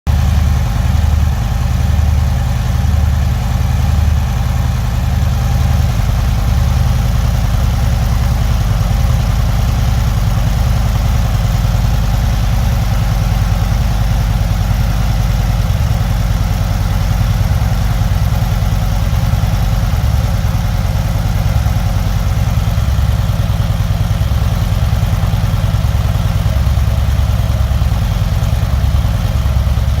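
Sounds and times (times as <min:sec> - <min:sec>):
motorcycle engine idling: 0:00.1 - 0:30.0.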